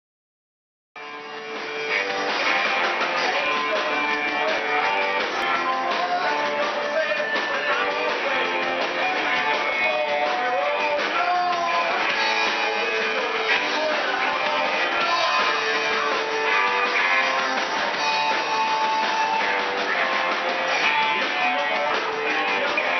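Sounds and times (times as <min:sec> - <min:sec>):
live band playing: 0:01.0 - 0:22.9.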